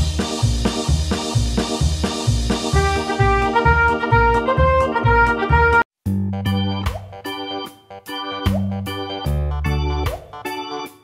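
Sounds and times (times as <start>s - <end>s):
background music held chords: 0.0s - 11.0s.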